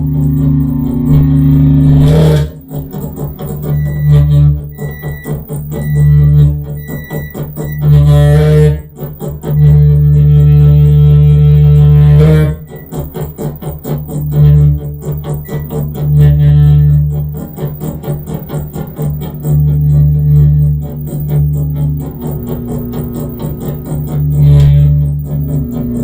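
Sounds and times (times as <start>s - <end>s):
short high beeps: 0.0s - 8.8s, 12.5s - 26.0s
fast rhythmic clicking: 0.0s - 26.0s
low buzzing drone: 0.0s - 26.0s.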